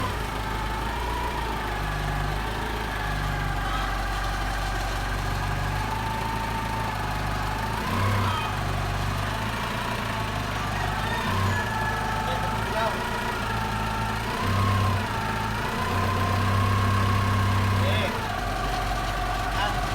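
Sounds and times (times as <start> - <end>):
forklift engine idling: 0.0 - 19.9.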